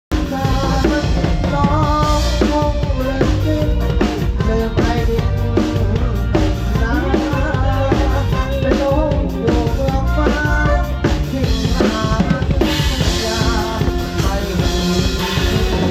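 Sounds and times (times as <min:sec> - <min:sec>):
bass drum and snare beat: 0:00.1 - 0:15.9
live band playing dance beat: 0:00.1 - 0:15.9.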